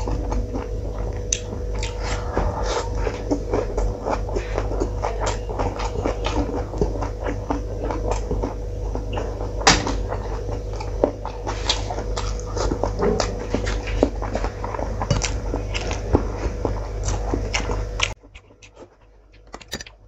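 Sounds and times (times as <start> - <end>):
low hum: 0.0 - 20.0
wet chewing and lip-smacking: 0.0 - 20.0.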